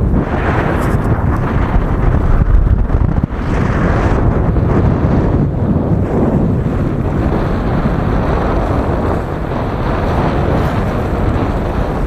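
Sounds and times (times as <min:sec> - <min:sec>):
heavy wind on microphone: 0:00.0 - 0:12.0
water rushing along hull: 0:00.0 - 0:12.0.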